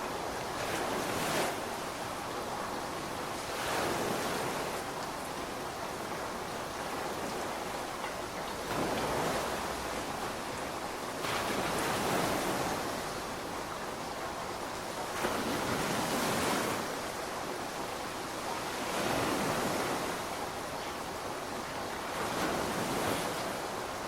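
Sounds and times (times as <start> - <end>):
steady rainfall: 0.0 - 24.0.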